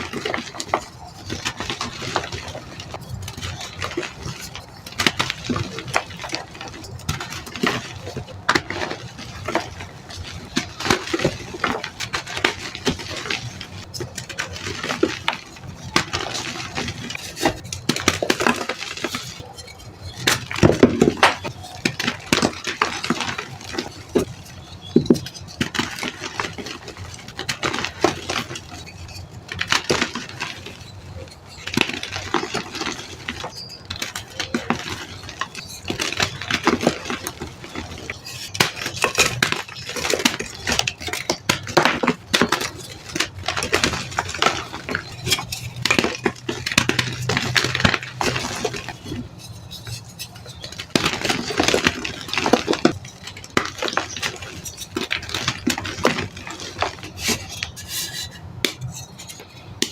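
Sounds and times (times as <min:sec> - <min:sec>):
chalk being crushed: 0:00.0 - 0:59.9.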